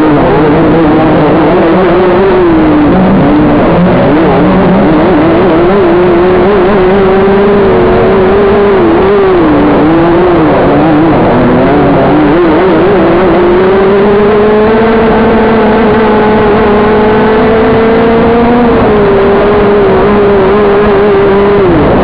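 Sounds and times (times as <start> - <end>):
kart engine at high revs: 0.0 - 22.0.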